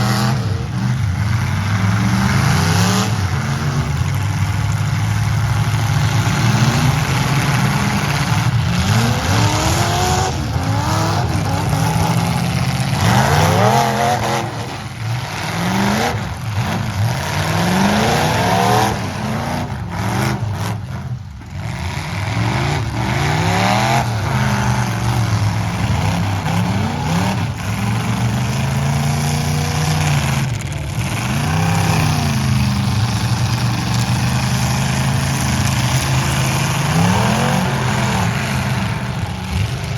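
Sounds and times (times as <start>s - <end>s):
truck engines revving: 0.0s - 39.9s.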